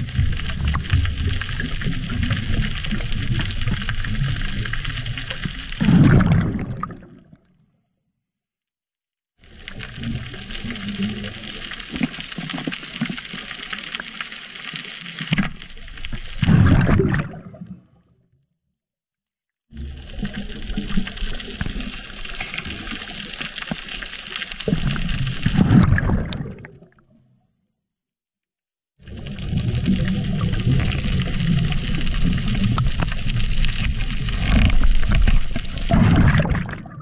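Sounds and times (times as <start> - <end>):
muffled underwater hiss and rumble: 0.0 - 7.0, 9.4 - 17.5, 19.8 - 26.6, 29.0 - 37.0.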